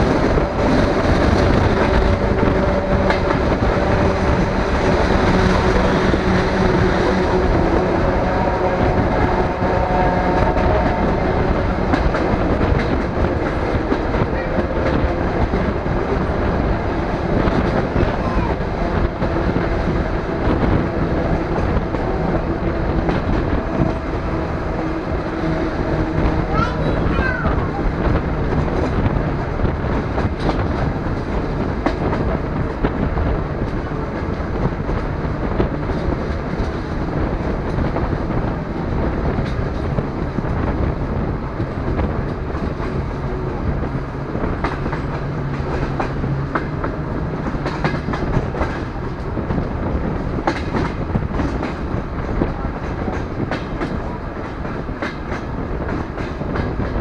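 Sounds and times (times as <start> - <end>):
train rumble: 0.0 - 57.0
wheels clicking over rail joints: 0.0 - 57.0.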